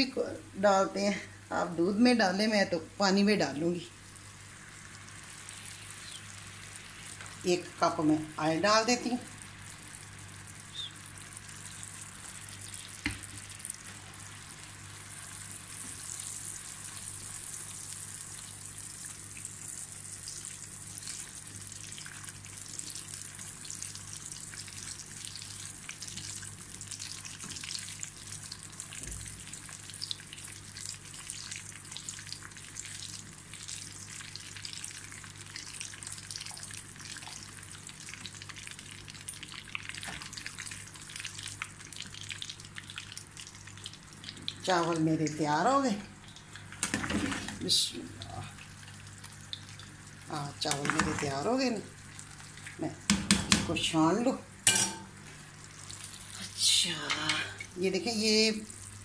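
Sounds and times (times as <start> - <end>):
hot oil sizzling and crackling: 0.0 - 59.0.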